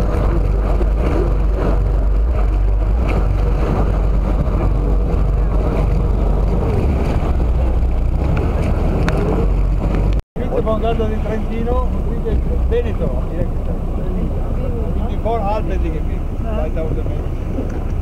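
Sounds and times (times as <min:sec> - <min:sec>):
boat engine drone: 0:00.0 - 0:18.0
rushing wind and water: 0:00.0 - 0:18.0.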